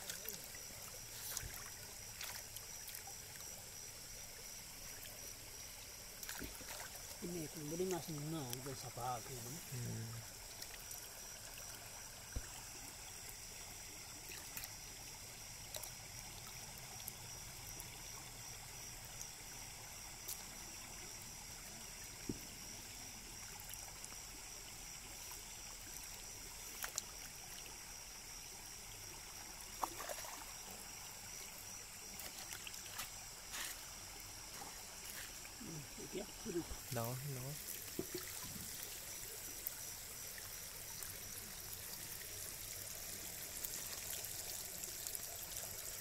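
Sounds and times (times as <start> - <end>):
steady high-pitched hiss: 0.0 - 46.0
water trickling and splashing: 0.0 - 46.0.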